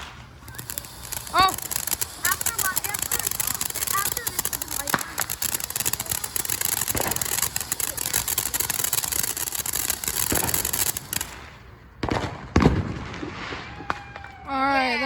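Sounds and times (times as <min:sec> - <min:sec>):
firework hissing and crackling: 0:00.0 - 0:15.0.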